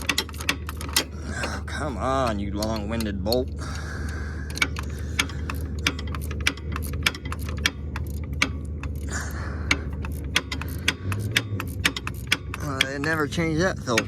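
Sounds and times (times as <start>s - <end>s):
metallic clicking: 0.0s - 14.0s
steady low hum: 0.0s - 14.0s.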